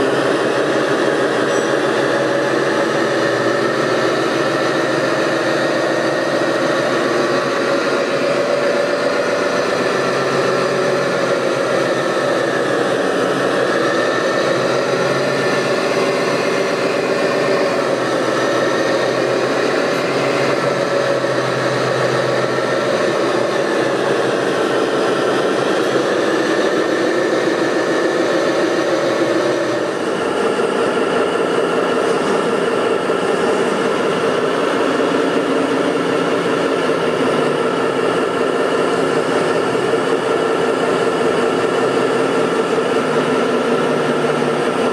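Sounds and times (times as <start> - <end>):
model vehicle engine drone: 0.0 - 44.9.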